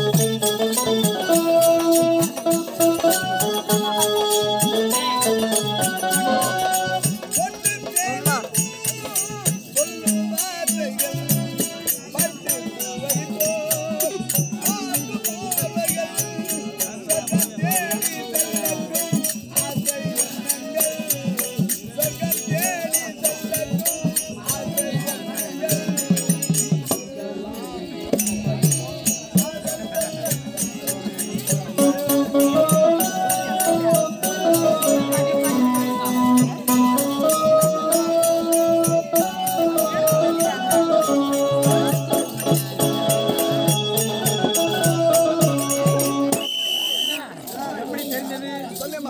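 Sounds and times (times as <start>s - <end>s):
harmonium holding notes: 0.0s - 47.0s
barrel drum and percussion: 0.0s - 49.0s.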